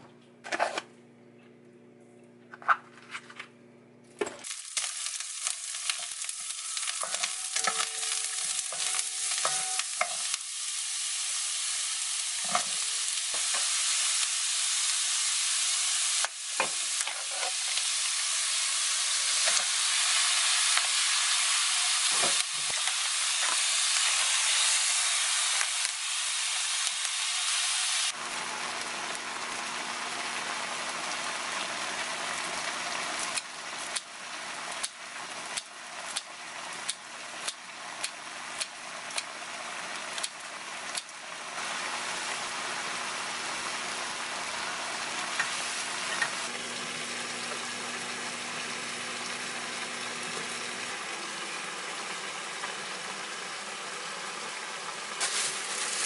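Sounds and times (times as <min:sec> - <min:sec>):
onions frying in oil: 0:04.4 - 0:56.0.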